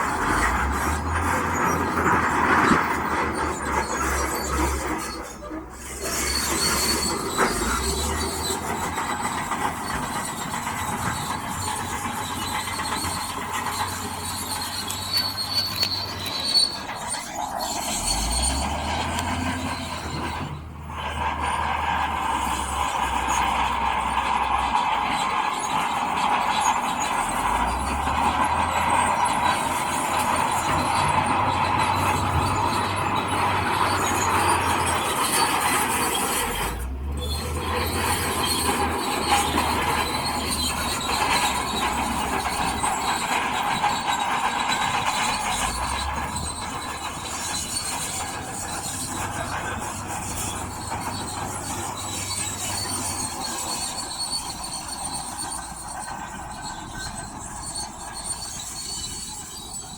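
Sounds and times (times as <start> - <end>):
bulldozer diesel engine: 0.0 - 59.9
steel tracks squealing and rattling: 0.0 - 59.9.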